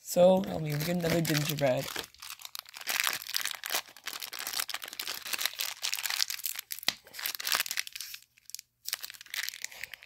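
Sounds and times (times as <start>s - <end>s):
wrapper crinkling and crackling: 0.3s - 10.0s
wrapper tearing snap: 0.7s - 10.0s.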